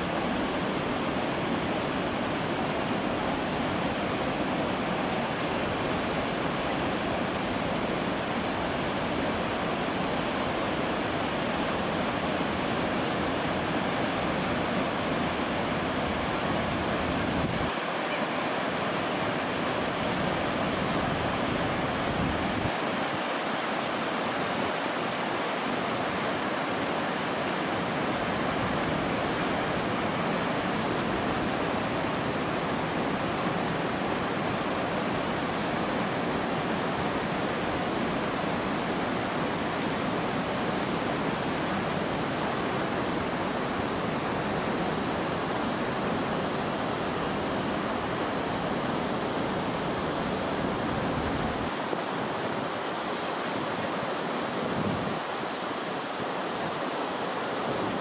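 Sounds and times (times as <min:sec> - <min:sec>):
river rushing over rapids: 0:00.0 - 0:58.0.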